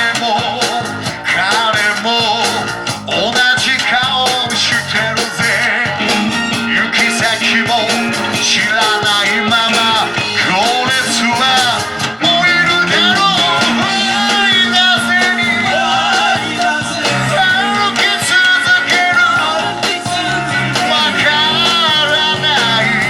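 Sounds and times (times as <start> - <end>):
bass: 0.0 - 23.0
drums: 0.0 - 23.0
electric guitar: 0.0 - 23.0
lead singer: 0.0 - 23.0.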